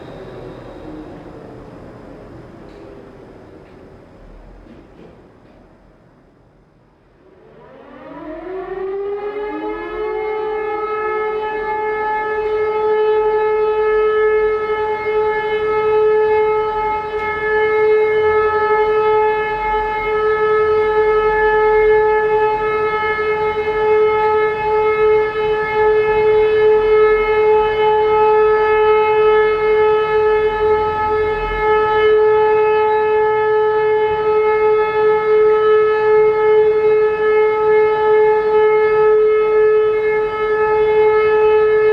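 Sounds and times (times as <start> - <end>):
civil defence siren: 0.0 - 41.9.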